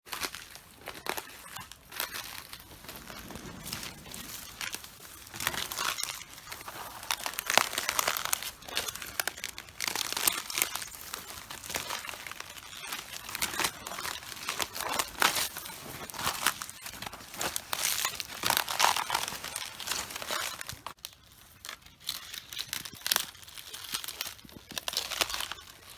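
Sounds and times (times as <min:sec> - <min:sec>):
cabbages crunching underfoot: 0:00.1 - 0:25.9.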